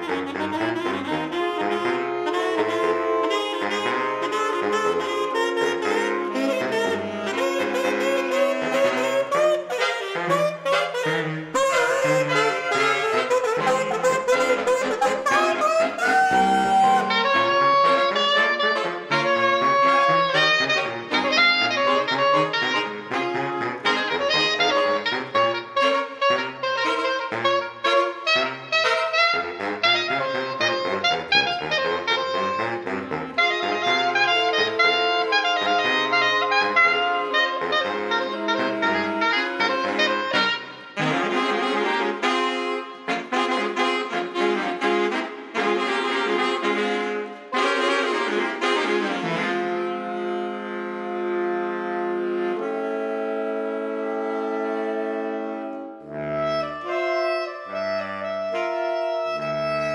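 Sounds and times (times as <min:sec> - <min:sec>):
saxophone quartet playing swing: 0:00.0 - 0:59.9.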